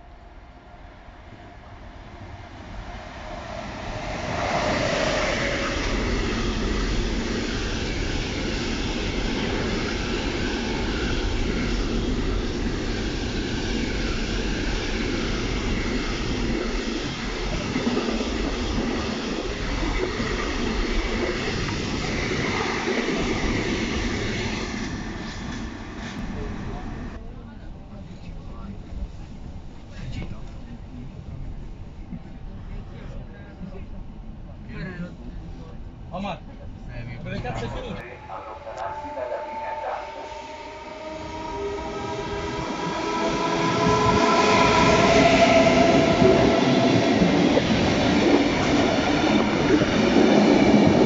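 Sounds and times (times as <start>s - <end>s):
freight train passing at speed: 0.0s - 51.0s.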